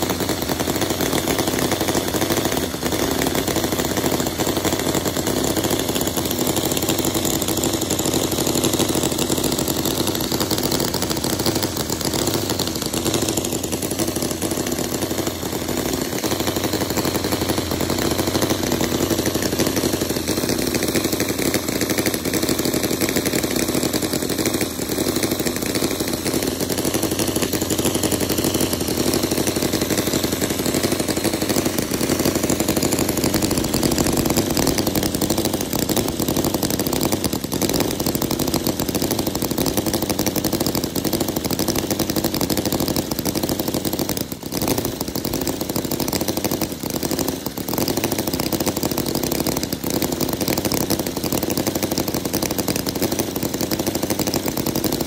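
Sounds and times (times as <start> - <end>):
small engine idling: 0.0 - 55.0.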